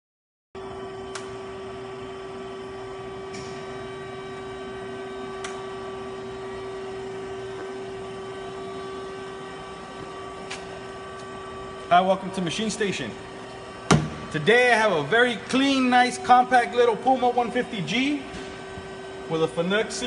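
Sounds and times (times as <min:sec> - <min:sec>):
machinery humming: 0:00.6 - 0:20.0.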